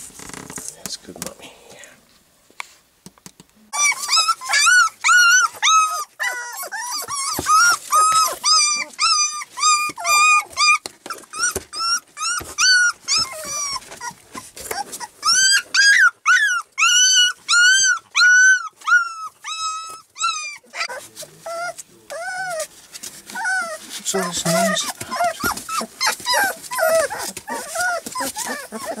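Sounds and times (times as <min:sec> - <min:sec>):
puppies whining and crying: 0:03.7 - 0:29.0.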